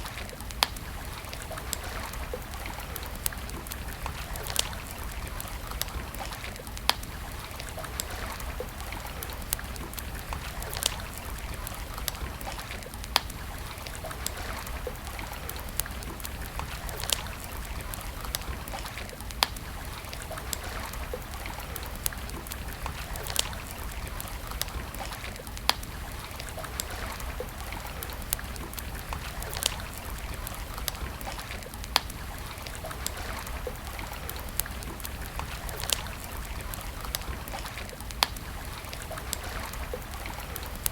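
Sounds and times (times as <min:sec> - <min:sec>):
wood campfire crackling: 0:00.0 - 0:40.9.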